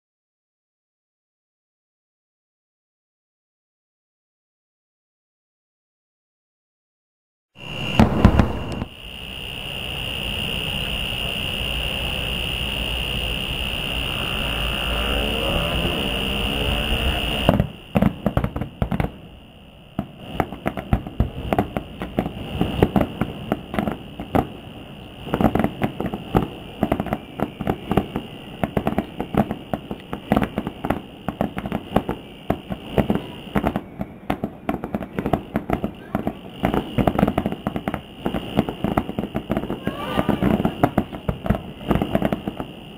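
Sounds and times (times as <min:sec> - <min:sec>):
fireworks popping and crackling: 0:07.6 - 0:42.9.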